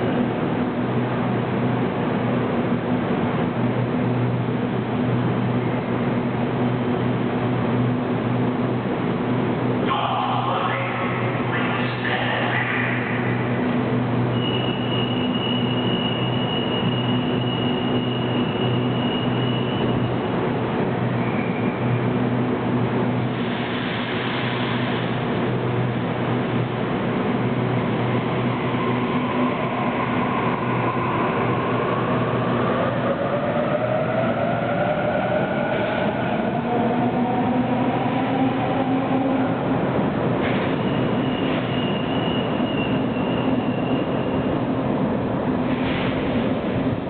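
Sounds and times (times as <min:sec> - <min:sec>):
train hum: 0:00.0 - 0:47.0.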